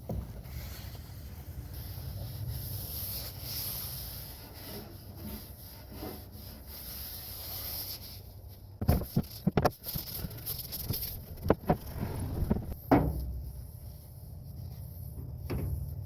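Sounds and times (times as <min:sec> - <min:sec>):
faint rubbing: 0:00.4 - 0:15.2.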